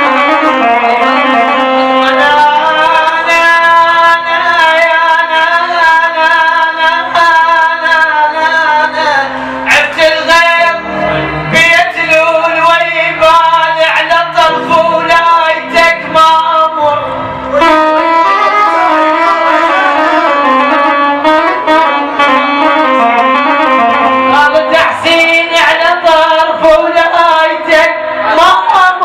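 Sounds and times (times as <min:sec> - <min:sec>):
held melodic instrumental line: 0:00.0 - 0:29.0.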